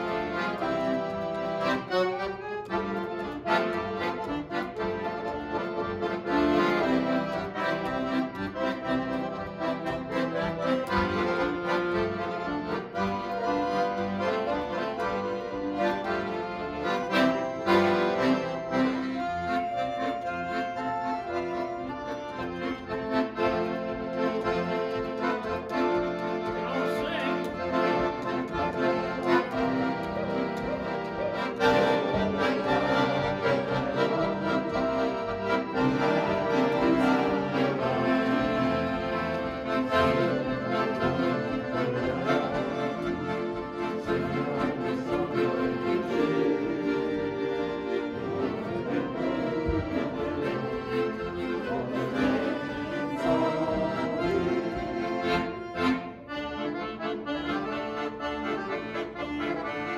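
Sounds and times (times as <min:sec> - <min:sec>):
accordions playing a tune: 0:00.0 - 0:59.9.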